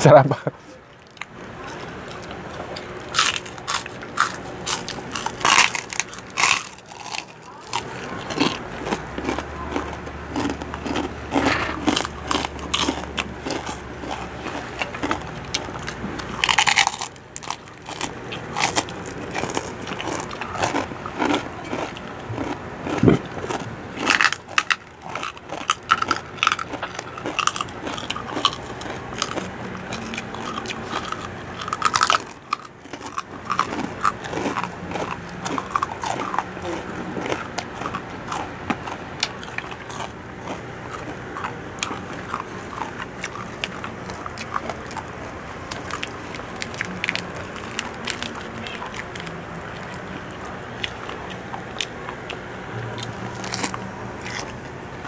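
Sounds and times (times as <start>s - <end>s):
crunchy bites and chewing: 0.9s - 54.7s.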